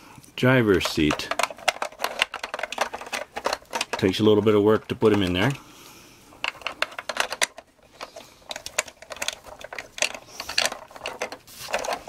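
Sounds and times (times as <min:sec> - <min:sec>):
plastic toy clicking and tapping: 0:00.8 - 0:05.6, 0:06.4 - 0:12.0.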